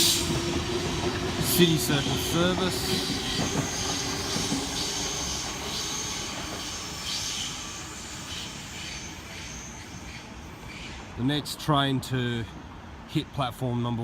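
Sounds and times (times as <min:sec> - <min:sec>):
electric train rumbling: 0:00.0 - 0:11.4.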